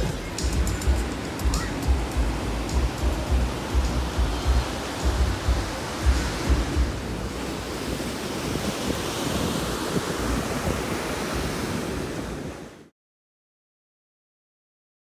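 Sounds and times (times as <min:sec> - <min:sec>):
wind buffeting microphone: 0:00.0 - 0:12.8
ocean surf washing on beach: 0:00.0 - 0:12.9.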